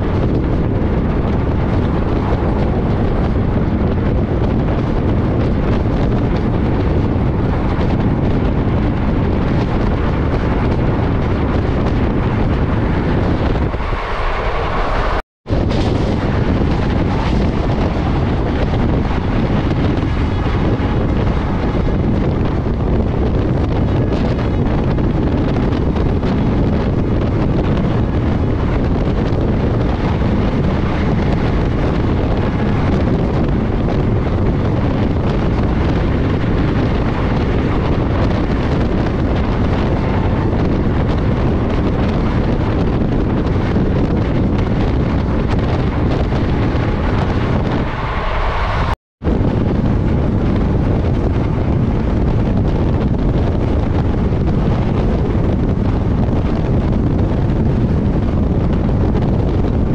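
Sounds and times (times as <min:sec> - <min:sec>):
train wheels on rails: 0:00.0 - 0:58.6
wind buffeting microphone: 0:00.0 - 0:59.9.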